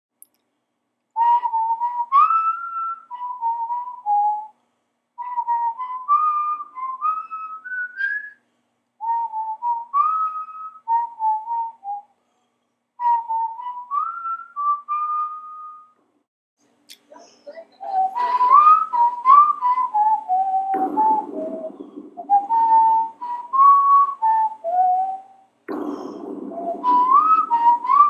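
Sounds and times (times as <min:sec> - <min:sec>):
person whistling a tune: 0:01.2 - 0:04.6, 0:05.2 - 0:08.4, 0:09.0 - 0:12.1, 0:13.0 - 0:16.0, 0:17.7 - 0:28.0.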